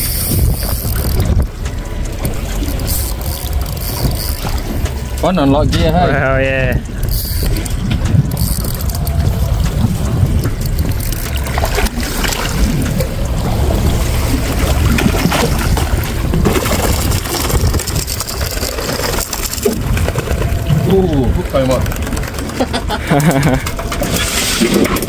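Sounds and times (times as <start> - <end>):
fish thrashing and splashing: 0.0 - 5.2, 6.8 - 25.0
steady low rumble: 0.0 - 25.0
water sloshing against boat: 0.0 - 25.0.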